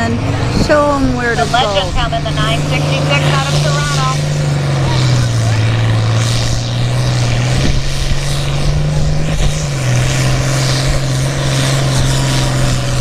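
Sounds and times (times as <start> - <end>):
tractor engine running hard: 0.0 - 13.0.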